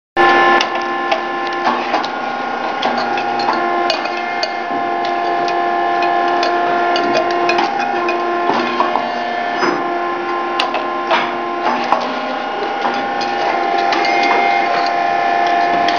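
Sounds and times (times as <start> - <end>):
machine clicks and knocks: 0.6 - 15.9.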